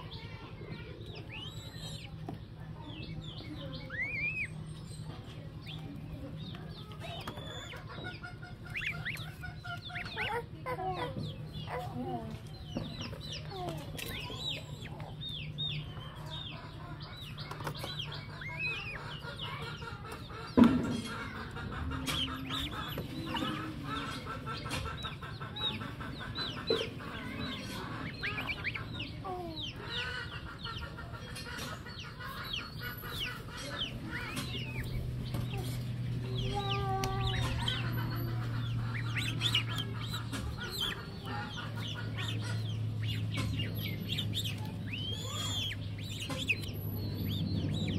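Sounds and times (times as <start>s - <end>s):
goslings peeping: 0.0s - 47.9s.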